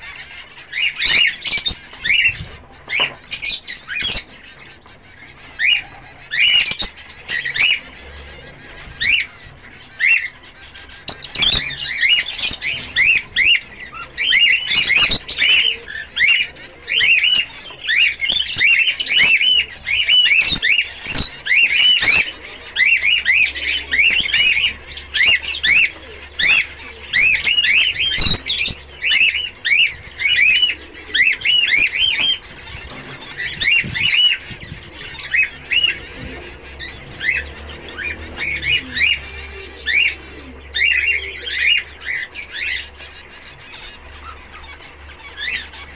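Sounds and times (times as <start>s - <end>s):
zebra finches calling: 0.0s - 45.9s.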